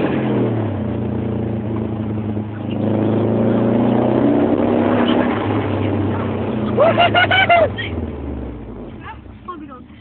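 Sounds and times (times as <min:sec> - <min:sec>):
car engine from inside cabin: 0:00.0 - 0:10.0
road noise: 0:00.0 - 0:10.0.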